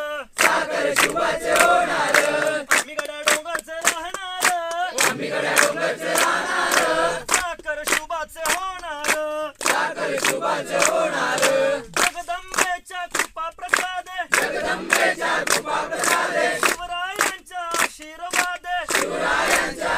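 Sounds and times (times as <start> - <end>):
group singing in unison: 0.0 - 8.4, 9.2 - 12.1, 14.2 - 19.9
rhythmic hand clapping: 0.0 - 19.9.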